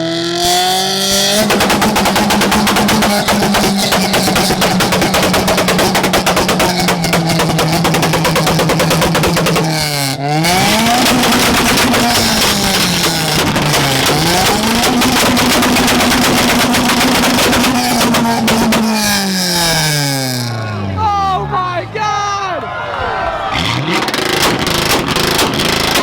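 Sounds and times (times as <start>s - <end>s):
car engine launch limiter pops and bangs: 0.4s - 20.6s, 23.6s - 26.0s.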